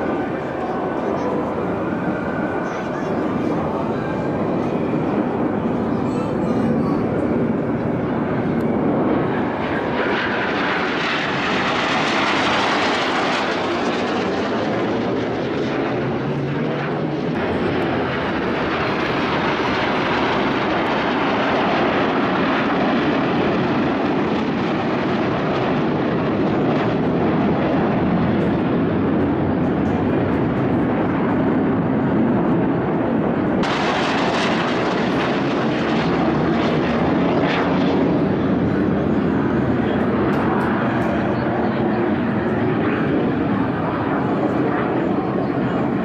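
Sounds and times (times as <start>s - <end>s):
jet aircraft rushing noise: 0.0s - 46.0s.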